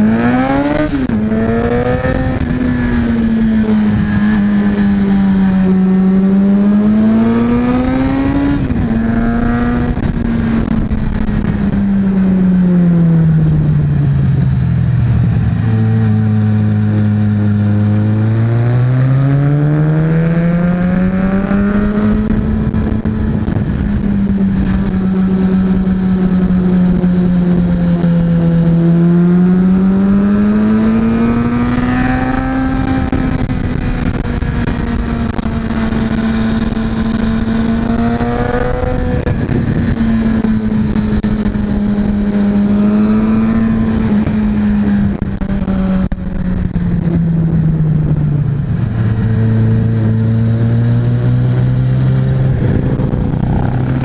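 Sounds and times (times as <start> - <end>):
motorcycle engine revving: 0.0 - 54.0
wind noise on microphone: 0.0 - 54.0.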